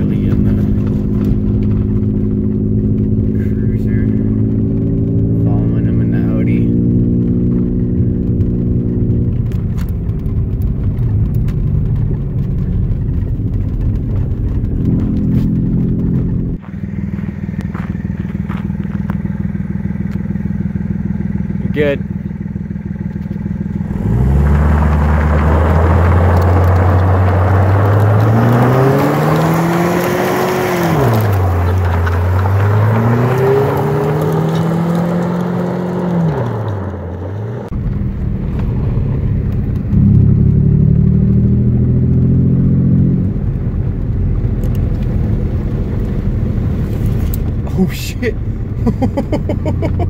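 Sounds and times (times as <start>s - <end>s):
tyres on loose gravel: 0.0s - 40.2s, 43.3s - 50.0s
car engine revving: 0.0s - 50.0s.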